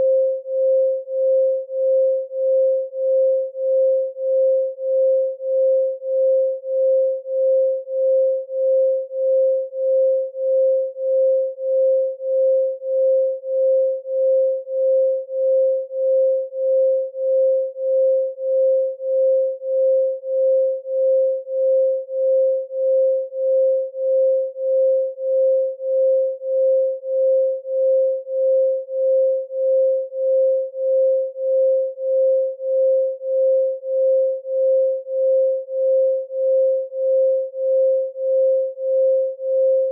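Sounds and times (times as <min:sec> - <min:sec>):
pulsing electronic pure tone: 0:00.0 - 0:39.9.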